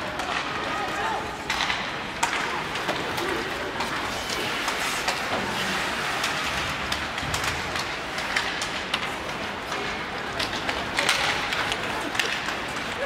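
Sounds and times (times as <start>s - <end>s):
hockey sticks clacking on puck: 0.0s - 13.0s
skate blades scraping ice: 0.0s - 13.0s.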